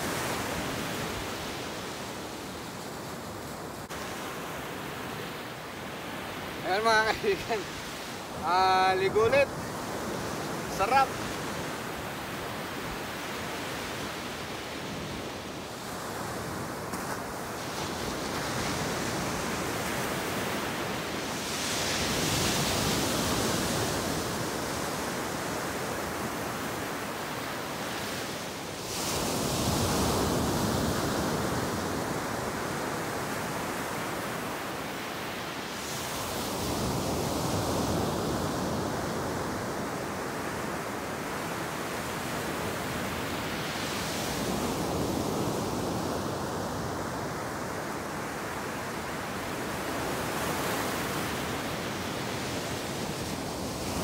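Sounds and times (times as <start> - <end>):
ocean surf breaking on shore: 0.0 - 54.0.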